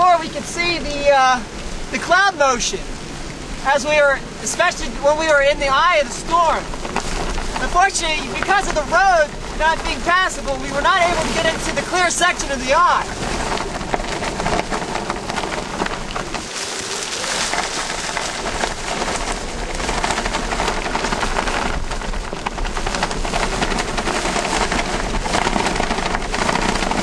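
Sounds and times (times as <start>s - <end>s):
wind and rain on microphone: 0.0s - 27.0s.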